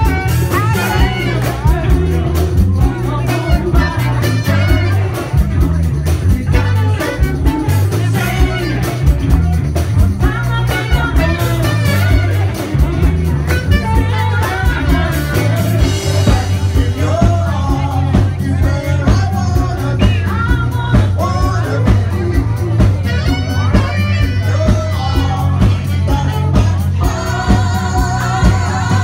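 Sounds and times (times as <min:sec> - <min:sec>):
drum beat: 0:00.0 - 0:29.0
heavy bass line: 0:00.0 - 0:29.0
live band playing: 0:00.0 - 0:29.0
saxophone melody: 0:00.0 - 0:29.0.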